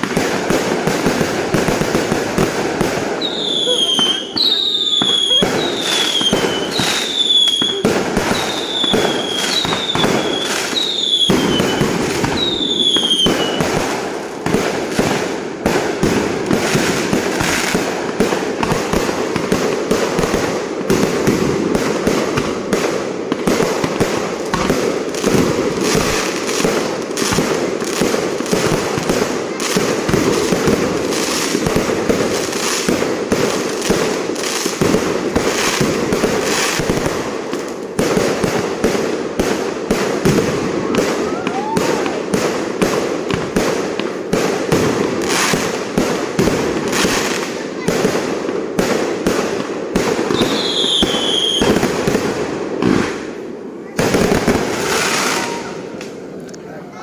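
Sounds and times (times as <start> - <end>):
whistling fireworks: 0.0 - 57.0.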